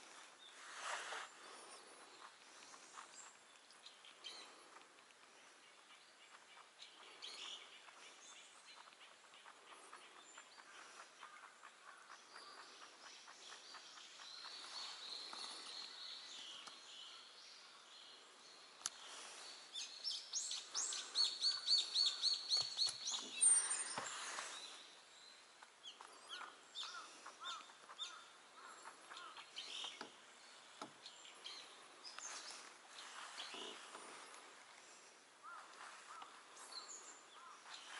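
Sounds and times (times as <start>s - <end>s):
birds chirping and calling: 0.0s - 37.9s.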